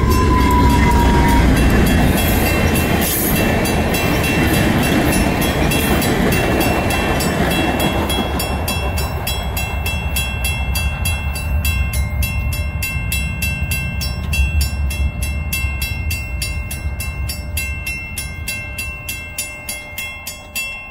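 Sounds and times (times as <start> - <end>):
level crossing bell ringing: 0.0 - 20.9
passing train rumble: 0.0 - 20.9.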